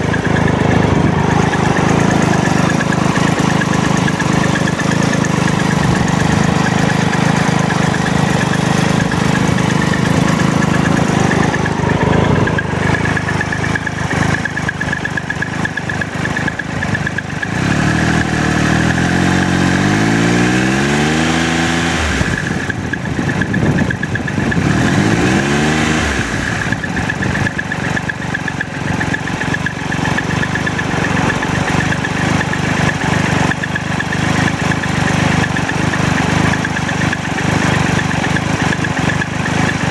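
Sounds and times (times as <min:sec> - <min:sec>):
engine revving: 0:00.0 - 0:39.9
motorcycle engine idling with rattle: 0:00.0 - 0:39.9.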